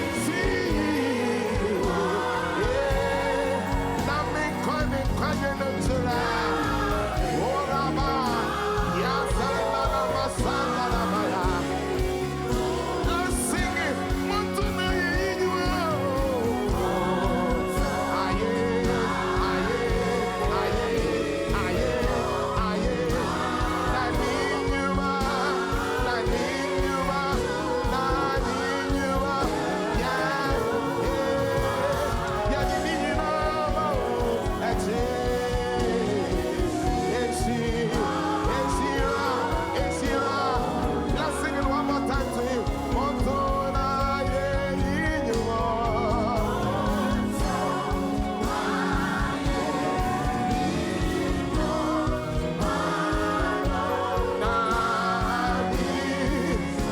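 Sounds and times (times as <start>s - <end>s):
gospel singing over chords and bass: 0.0s - 56.9s.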